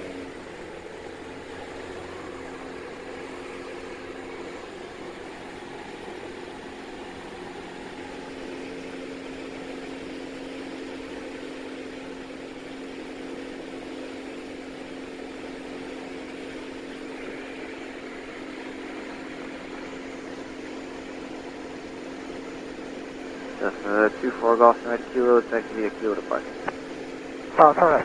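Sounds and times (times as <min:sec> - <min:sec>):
aircraft engine and propeller drone: 0:00.0 - 0:28.0.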